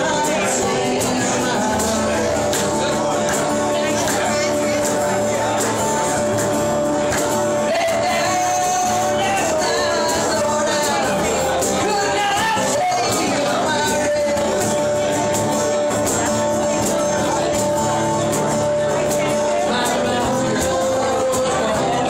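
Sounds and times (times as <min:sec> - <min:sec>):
guitars strumming: 0:00.0 - 0:22.0
person singing: 0:00.0 - 0:22.0.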